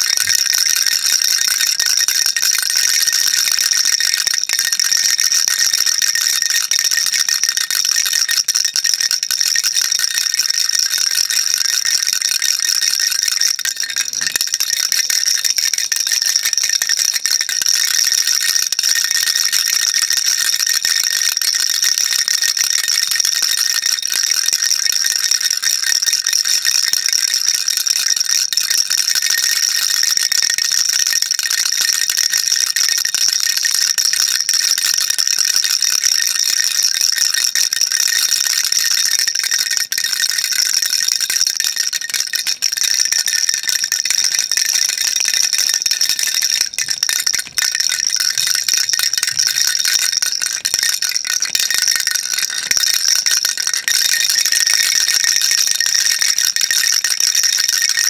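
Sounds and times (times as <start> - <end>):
baby rattle shaking: 0.0 - 27.4, 36.4 - 56.7.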